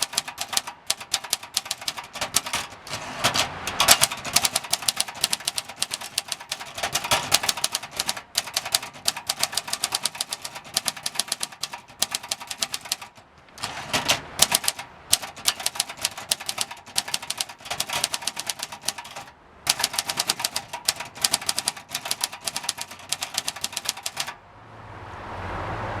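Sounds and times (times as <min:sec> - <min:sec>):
manual typewriter clacking: 0:00.0 - 0:24.4.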